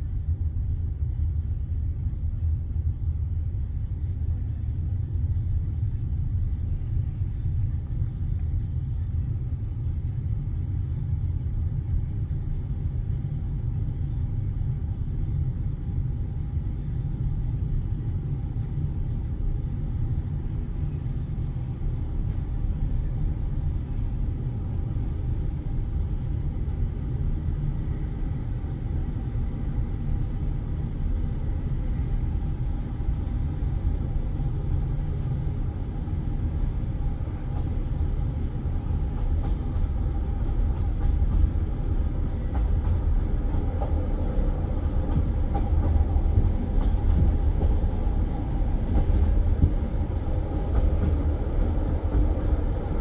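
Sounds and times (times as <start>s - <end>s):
train rumbling inside carriage: 0.0s - 53.0s.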